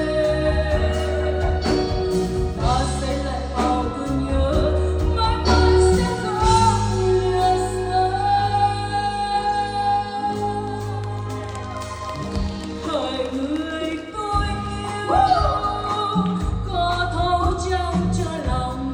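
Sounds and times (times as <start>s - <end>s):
ballad singing: 0.0s - 18.9s
bass and accompaniment: 0.0s - 18.9s.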